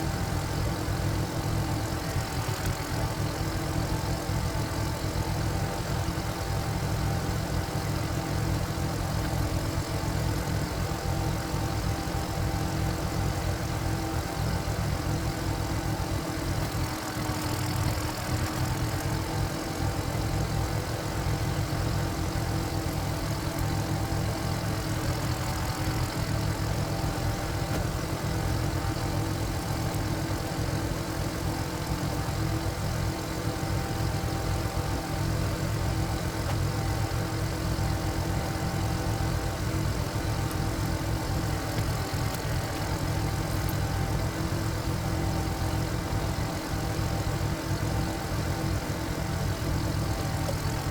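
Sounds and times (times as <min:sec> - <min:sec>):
diesel engine running: 0:00.1 - 0:46.1.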